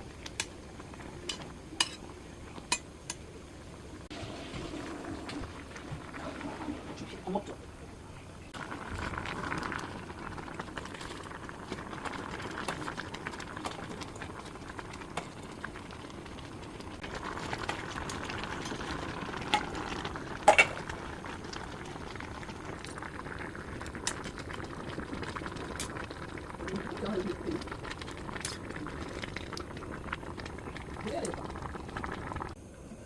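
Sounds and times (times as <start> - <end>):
small crackles and clicks: 0.0 - 3.2, 8.5 - 32.6
broth bubbling in a pot: 0.0 - 33.0.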